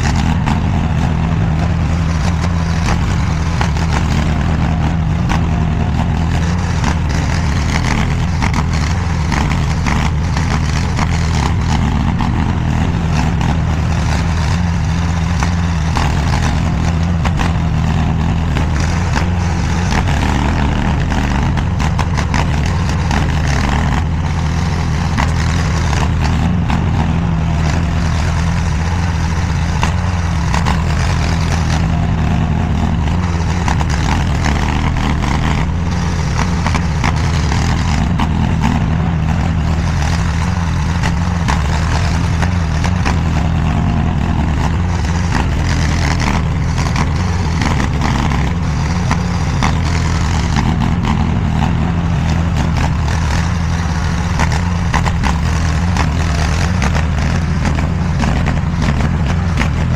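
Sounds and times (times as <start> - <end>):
clanks and rattles: 0.0 - 59.9
mini skid steer engine running: 0.0 - 59.9.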